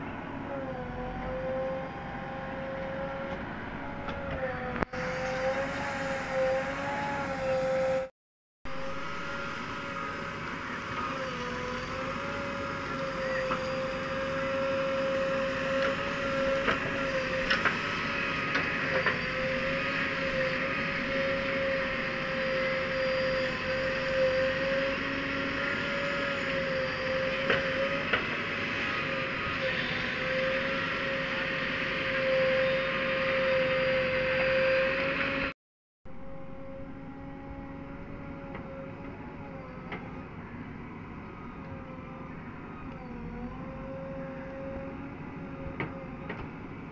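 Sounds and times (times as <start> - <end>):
diesel engine running: 0.0 - 8.1, 8.7 - 46.9.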